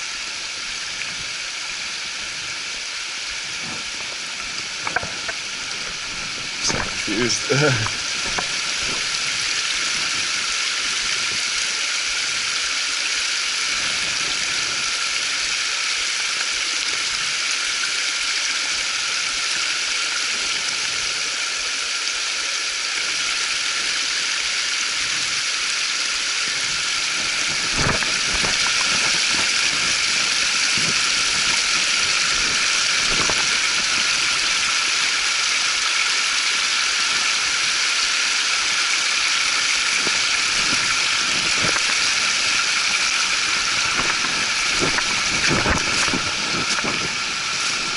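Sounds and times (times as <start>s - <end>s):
creek water rushing: 0.0s - 47.9s.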